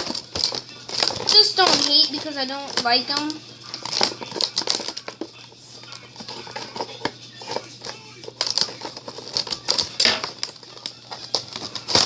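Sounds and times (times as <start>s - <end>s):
plastic packaging clicks and crinkles: 0.0s - 12.0s.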